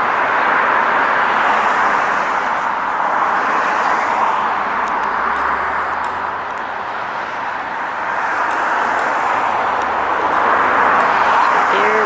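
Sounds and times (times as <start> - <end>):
low engine hum: 0.0 - 12.0
road traffic noise: 0.0 - 12.0.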